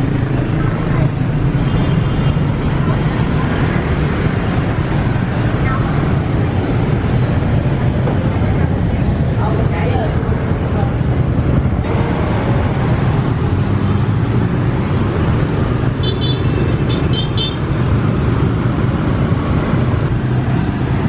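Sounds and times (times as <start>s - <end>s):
motorbike traffic passing: 0.0s - 21.0s.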